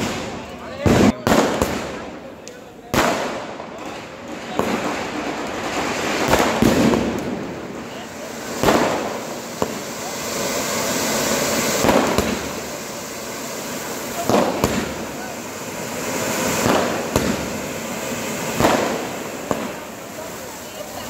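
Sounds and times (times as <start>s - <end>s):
firecrackers crackling: 0.0s - 21.0s
loud sharp firework bangs: 0.0s - 21.0s.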